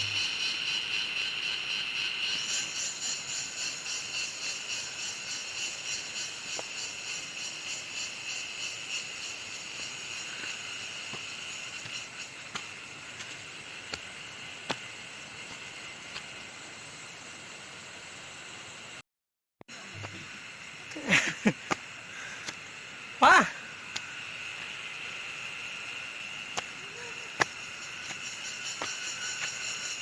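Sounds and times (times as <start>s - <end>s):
pulsing insect chorus: 0.0s - 19.0s, 19.7s - 30.0s.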